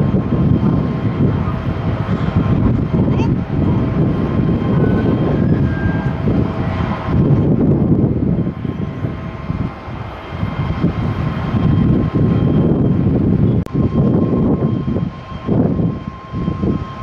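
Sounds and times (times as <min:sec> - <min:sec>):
jet engine rumble: 0:00.0 - 0:17.0
jet engine whine: 0:00.0 - 0:17.0
wind buffeting microphone: 0:00.0 - 0:17.0.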